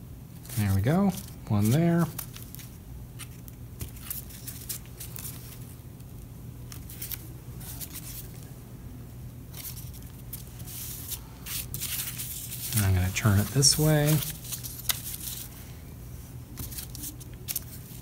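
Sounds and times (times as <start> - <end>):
faint low hum: 0.0 - 18.0
paper strips rustling on table: 0.4 - 8.5, 9.5 - 15.7, 16.5 - 18.0.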